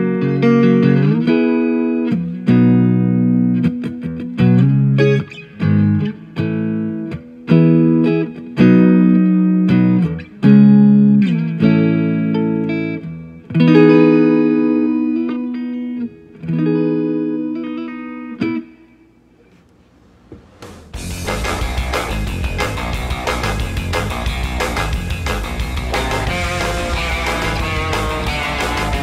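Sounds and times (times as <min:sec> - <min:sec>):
electric guitar chords and notes: 0:00.0 - 0:19.0, 0:21.0 - 0:29.0.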